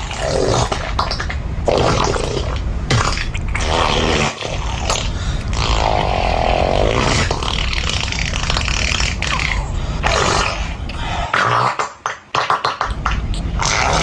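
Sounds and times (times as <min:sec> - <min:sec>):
rasping fart noises: 0:00.0 - 0:14.0.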